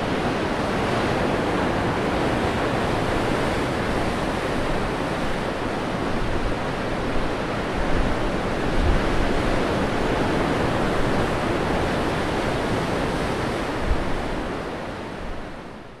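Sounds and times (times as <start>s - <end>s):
sea waves rushing: 0.0s - 15.8s.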